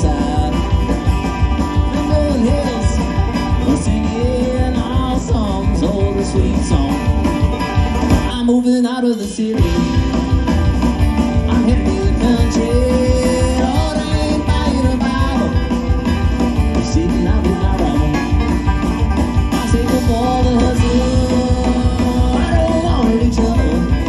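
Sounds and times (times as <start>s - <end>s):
banjo picking: 0.0s - 8.6s, 9.5s - 24.0s
acoustic guitar strumming: 0.0s - 24.0s
drums keeping a beat: 0.0s - 24.0s.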